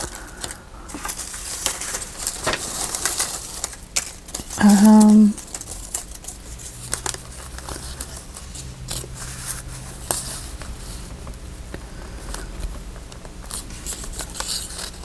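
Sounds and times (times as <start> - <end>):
paper rustling: 0.0 - 11.1, 13.4 - 15.0.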